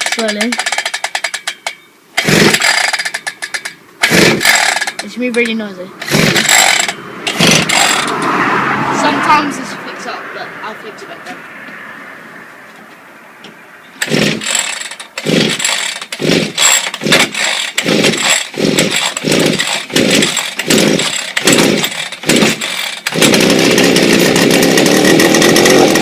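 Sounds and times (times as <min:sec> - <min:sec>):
two-stroke engine starting and running: 0:00.0 - 0:10.0, 0:14.0 - 0:26.0.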